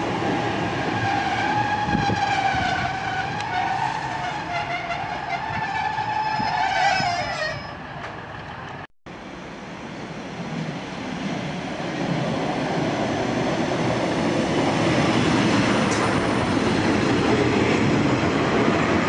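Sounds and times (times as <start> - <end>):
diesel train engine passing: 0.0 - 19.0
train wheels on rails: 0.0 - 19.0.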